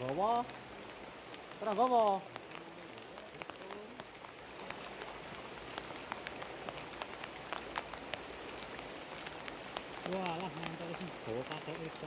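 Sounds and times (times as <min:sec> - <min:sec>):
rain falling: 0:00.0 - 0:12.0
raindrops ticking close by: 0:00.0 - 0:12.0.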